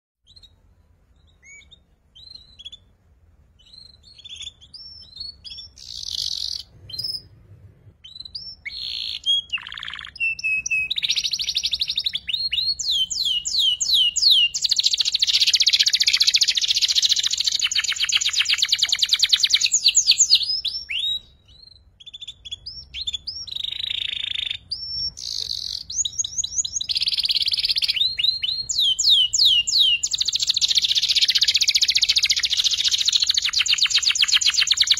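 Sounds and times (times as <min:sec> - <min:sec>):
canary singing trills: 0:00.2 - 0:07.4, 0:08.0 - 0:34.9.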